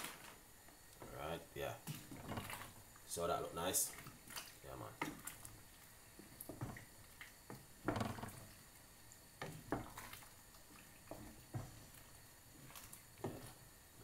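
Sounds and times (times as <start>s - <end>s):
liquid sloshing: 1.8s - 3.0s, 3.6s - 13.8s.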